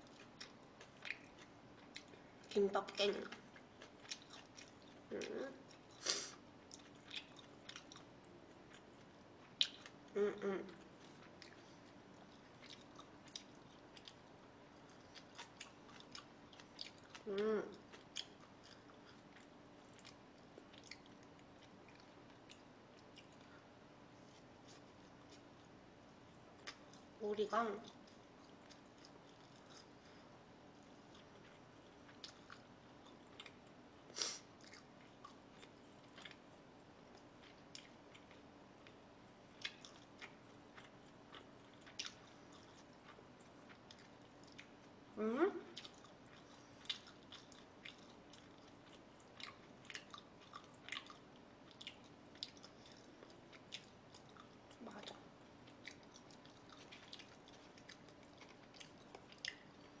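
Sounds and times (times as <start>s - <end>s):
chewing with mouth smacks: 0.0s - 2.6s, 3.3s - 10.1s, 10.7s - 23.6s, 26.6s - 27.1s, 27.8s - 33.8s, 34.4s - 45.0s, 45.7s - 60.0s.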